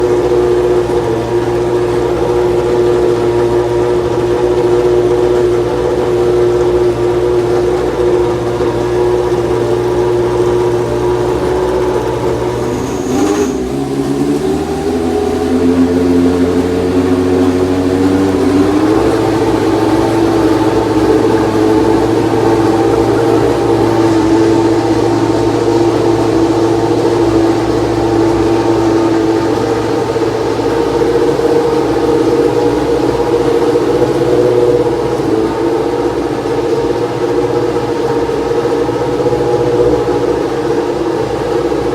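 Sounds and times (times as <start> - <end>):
racing car engine running: 0.0 - 41.9.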